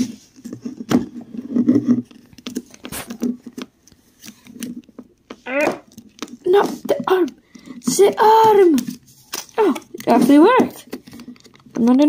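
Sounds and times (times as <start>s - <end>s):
plastic figure rubbing and tapping: 0.0s - 12.0s.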